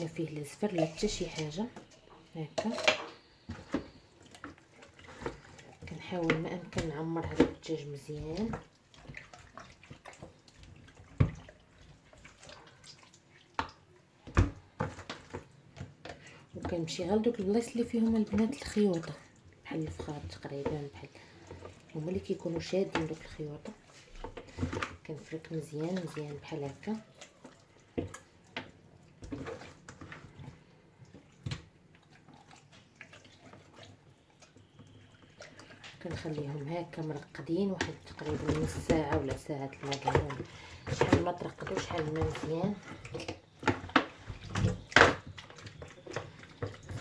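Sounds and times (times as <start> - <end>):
wet squishing and scraping: 0.0 - 47.0
hands squelching raw chicken: 0.4 - 16.6, 18.0 - 47.0.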